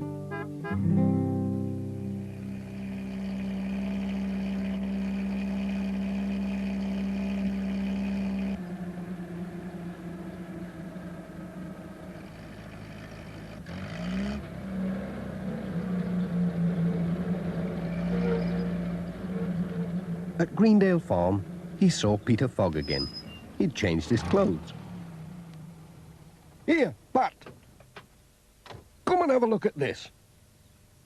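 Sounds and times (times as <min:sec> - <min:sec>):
van engine running: 0:00.0 - 0:29.1.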